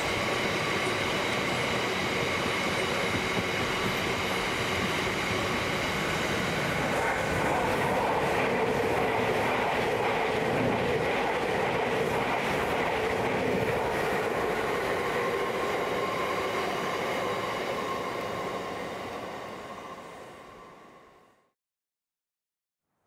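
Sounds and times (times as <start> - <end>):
train wheels rumbling on track: 0.0 - 20.9.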